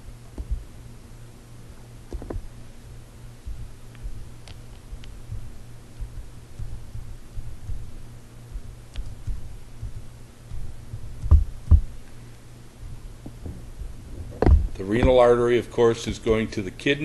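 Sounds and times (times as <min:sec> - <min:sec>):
soft low thumps: 0:00.0 - 0:00.9, 0:01.6 - 0:15.5
low steady hum: 0:00.0 - 0:17.0.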